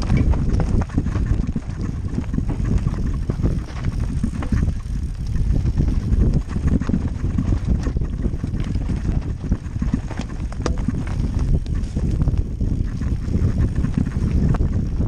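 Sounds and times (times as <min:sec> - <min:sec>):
bike knocking and rattling: 0:00.0 - 0:15.0
wind rumbling on microphone: 0:00.0 - 0:15.0.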